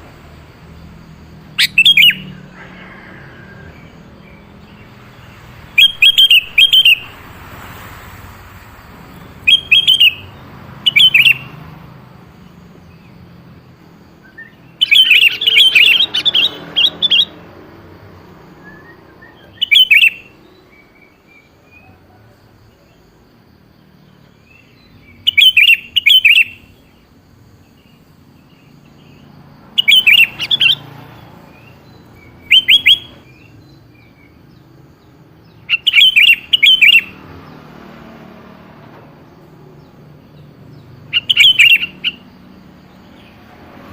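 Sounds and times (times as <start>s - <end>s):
bulbul singing: 0.0s - 43.9s.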